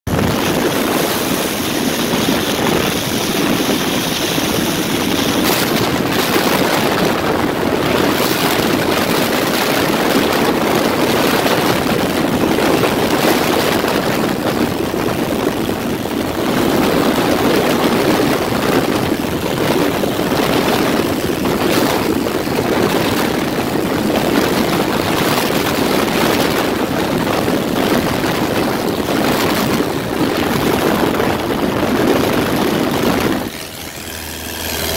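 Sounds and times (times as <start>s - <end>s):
propeller plane engine running: 0.0s - 34.9s
wind rushing on microphone: 0.0s - 34.9s.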